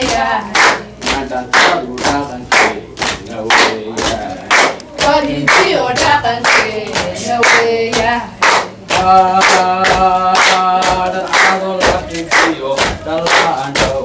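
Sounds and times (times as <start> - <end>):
group of voices singing: 0.0 - 14.0
rhythmic hand clapping: 0.0 - 14.0.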